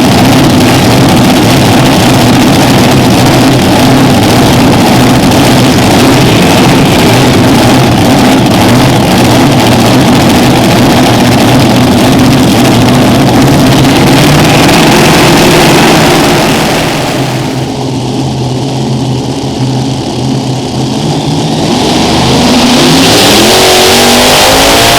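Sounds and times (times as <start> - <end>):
tractor engines roaring: 0.0 - 24.9.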